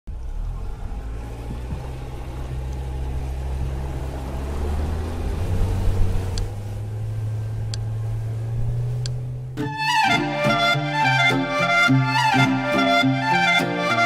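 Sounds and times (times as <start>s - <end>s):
motorboat engine droning: 0.1s - 14.0s.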